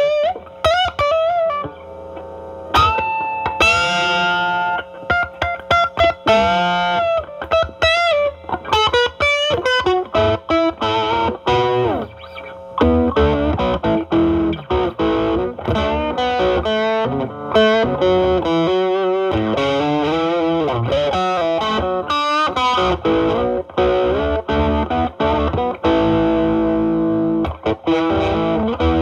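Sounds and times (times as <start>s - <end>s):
overdriven electric guitar lead: 0.0s - 29.0s.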